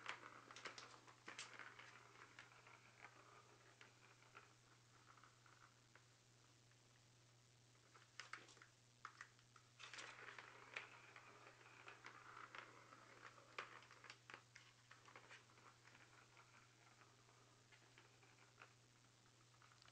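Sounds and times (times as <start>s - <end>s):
ball rolling and rattling: 0.0s - 6.2s, 7.7s - 19.9s
low steady hum: 0.0s - 19.9s.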